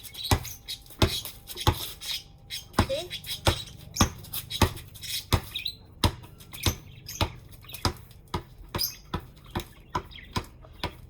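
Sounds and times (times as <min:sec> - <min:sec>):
basketball bouncing: 0:00.2 - 0:02.0, 0:02.6 - 0:11.0.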